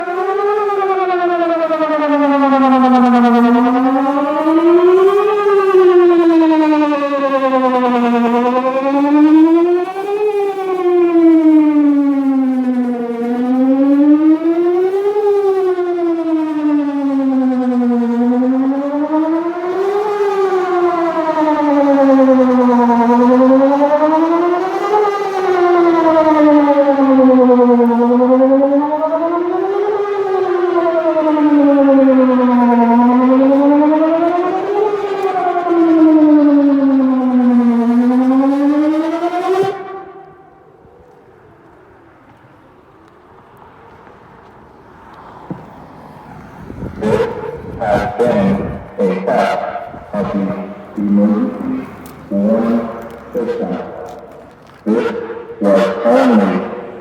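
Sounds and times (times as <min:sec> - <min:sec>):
tornado siren wailing: 0:00.0 - 0:57.0.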